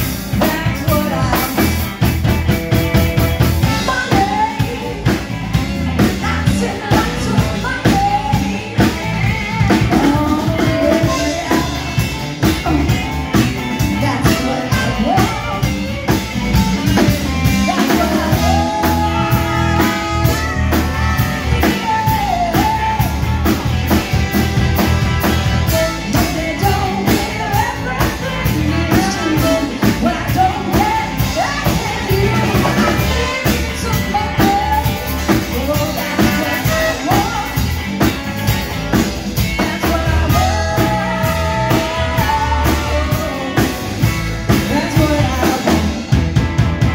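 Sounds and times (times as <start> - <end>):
live rock band playing: 0.0 - 46.9
woman singing: 0.1 - 2.2, 3.4 - 46.2.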